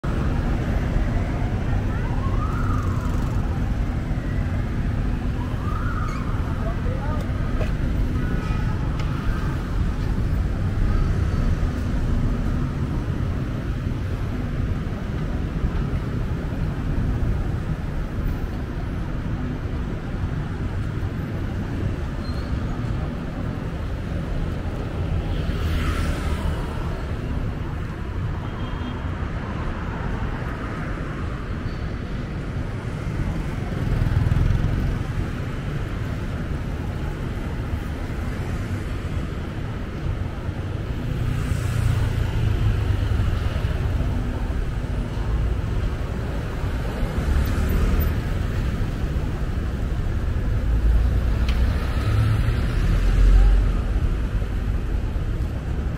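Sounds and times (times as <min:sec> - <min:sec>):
low rumble of engine and tyres: 0:00.0 - 0:55.9
passing cars and motorbikes: 0:00.0 - 0:55.9.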